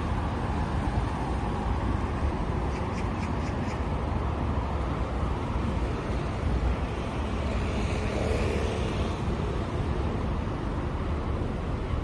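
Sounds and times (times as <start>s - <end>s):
faint street ambience: 0.0s - 12.0s.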